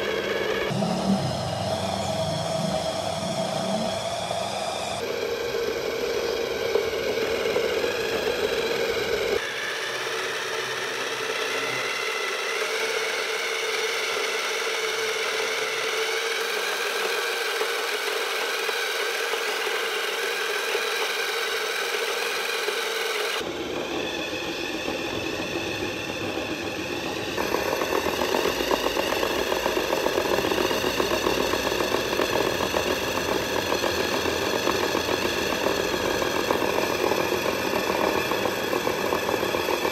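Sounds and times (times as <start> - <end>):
small electric motor whining: 0.0 - 39.9
tyres spinning on concrete: 5.0 - 39.9.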